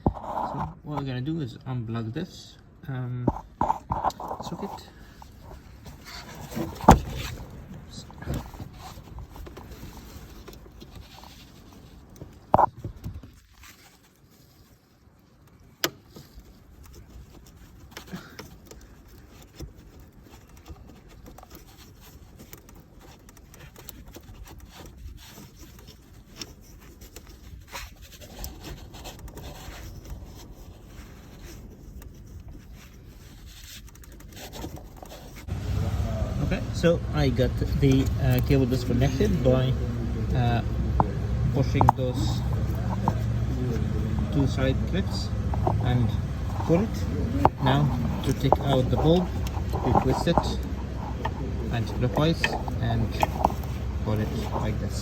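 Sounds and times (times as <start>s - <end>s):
hands rubbing and scraping plastic: 0.0s - 1.1s, 3.3s - 55.0s.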